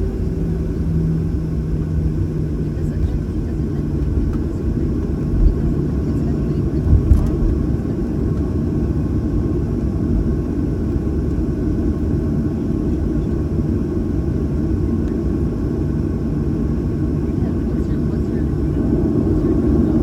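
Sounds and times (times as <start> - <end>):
jet engine rumble in cabin: 0.0 - 20.0.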